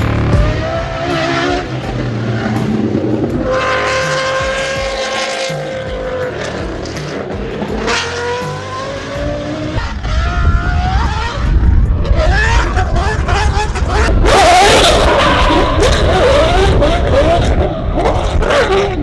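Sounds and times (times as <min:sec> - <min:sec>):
racing engine at high revs: 0:00.0 - 0:19.0.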